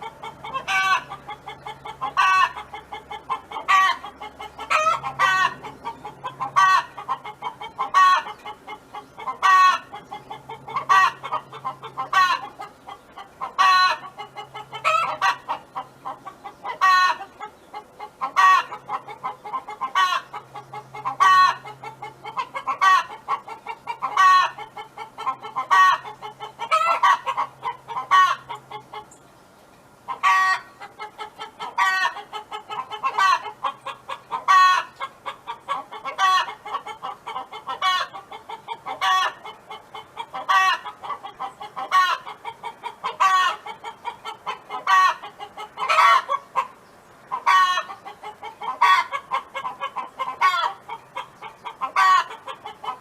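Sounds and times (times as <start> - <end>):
hen calling: 0.0 - 29.2, 30.1 - 53.0.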